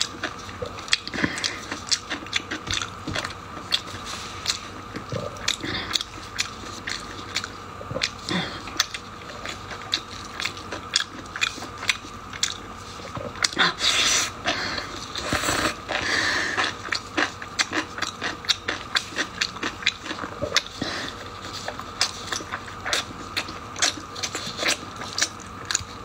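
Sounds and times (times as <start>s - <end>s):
person biting and chewing: 0.0s - 26.0s.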